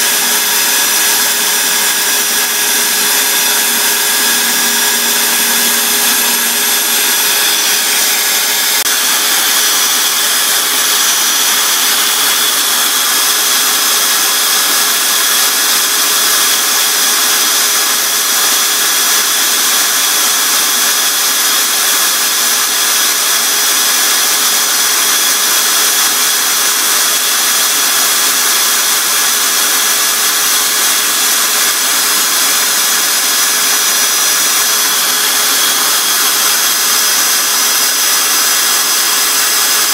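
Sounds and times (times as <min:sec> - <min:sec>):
electric drill motor whine: 0:00.0 - 0:39.9.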